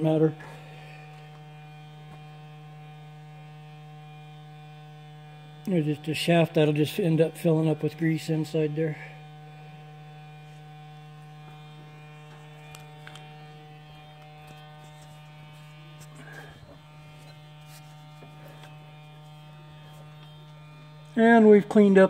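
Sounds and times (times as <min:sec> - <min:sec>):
metal lathe humming: 0:00.0 - 0:22.0.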